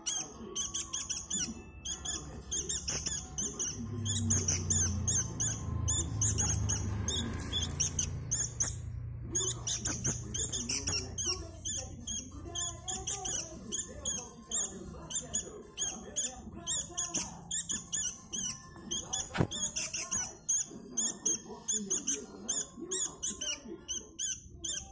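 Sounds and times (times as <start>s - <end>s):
young bulbuls chirping: 0.0s - 24.9s.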